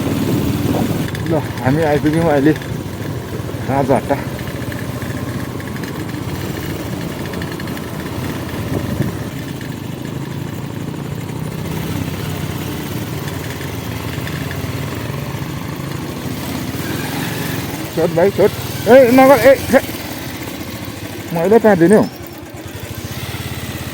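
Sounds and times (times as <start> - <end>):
motorcycle engine at low revs: 0.0 - 23.9.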